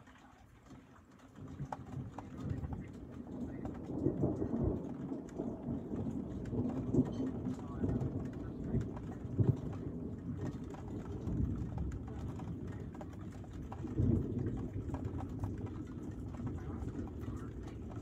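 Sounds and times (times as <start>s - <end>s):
rain: 0.0s - 18.0s
thunder rumbling: 1.3s - 18.0s.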